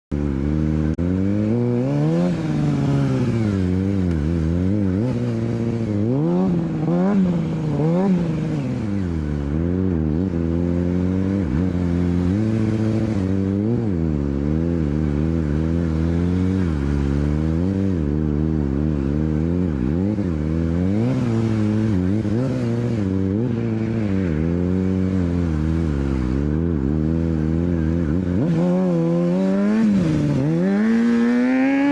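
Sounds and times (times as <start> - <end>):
motorcycle engine revving: 0.1 - 31.9.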